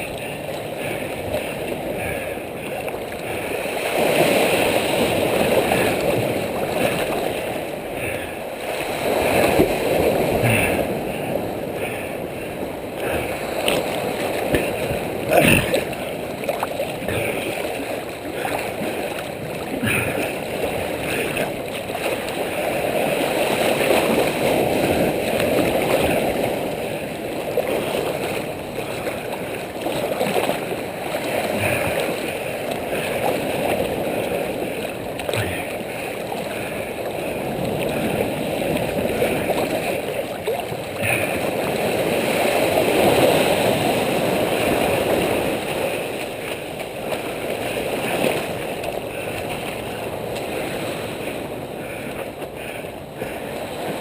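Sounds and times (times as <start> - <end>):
ocean waves against rocks: 0.0 - 54.0
sharp water splashes: 0.0 - 54.0.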